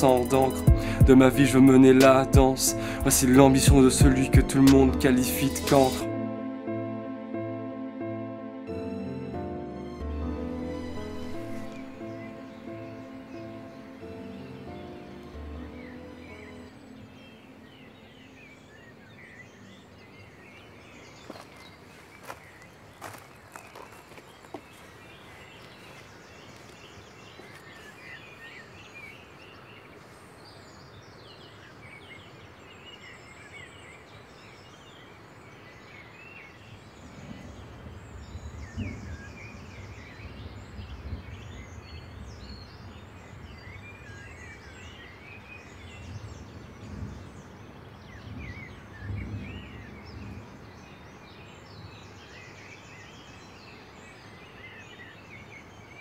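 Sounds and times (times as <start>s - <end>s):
outdoor background noise: 10.7s - 56.0s
small birds chirping: 10.7s - 56.0s.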